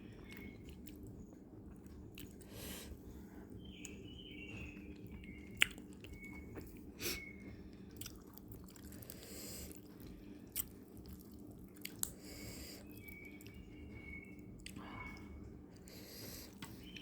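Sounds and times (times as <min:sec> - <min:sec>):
chewing fried food: 0:00.0 - 0:17.0.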